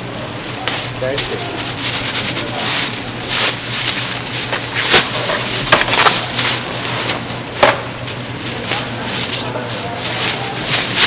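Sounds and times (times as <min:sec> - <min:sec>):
crackling rustling handling noise: 0:00.0 - 0:11.0.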